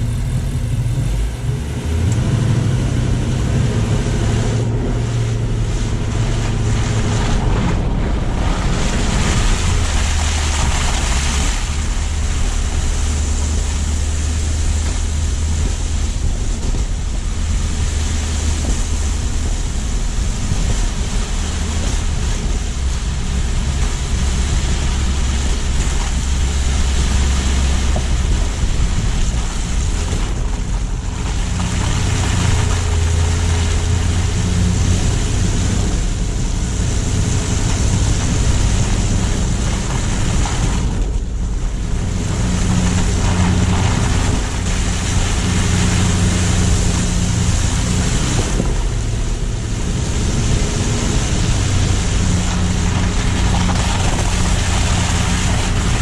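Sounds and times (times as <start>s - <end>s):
car engine and road rumble: 0.0s - 56.0s
tyre and wind hiss: 0.0s - 56.0s.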